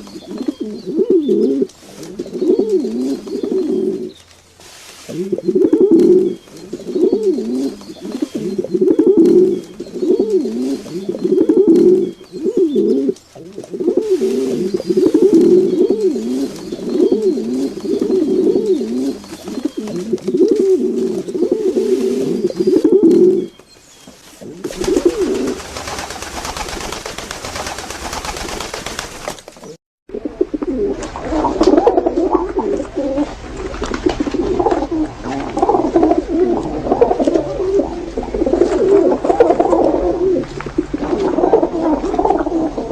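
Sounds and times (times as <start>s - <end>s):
pigeons cooing: 0.0s - 29.0s, 29.6s - 42.9s.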